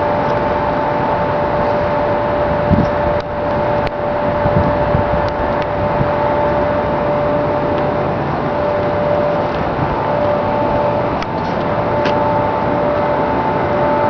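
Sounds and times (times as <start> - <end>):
mechanical drone with whining tones: 0.0 - 14.0.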